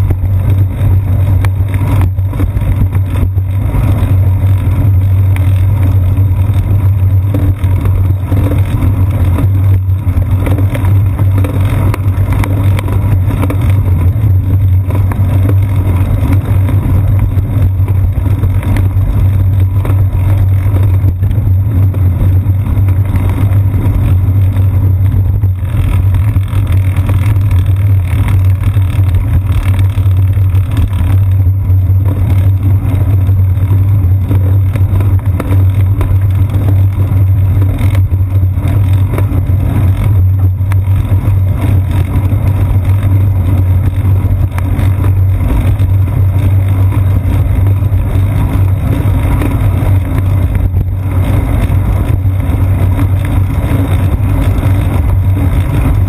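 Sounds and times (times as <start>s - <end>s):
bicycle rumbling on concrete: 0.0s - 56.0s.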